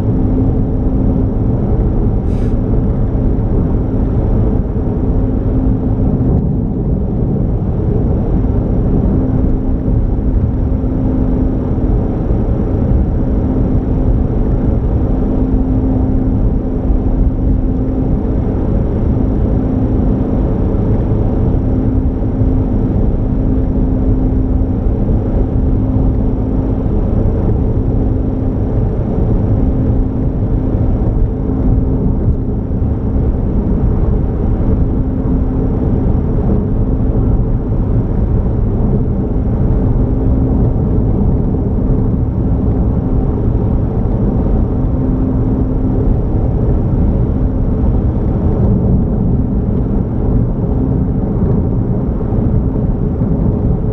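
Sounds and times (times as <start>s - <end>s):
car road and engine rumble: 0.0s - 53.9s
droning hum: 0.0s - 53.9s.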